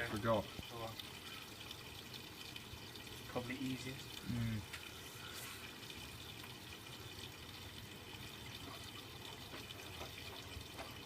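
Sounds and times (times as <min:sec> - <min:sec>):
washing machine water trickling: 0:00.0 - 0:11.0.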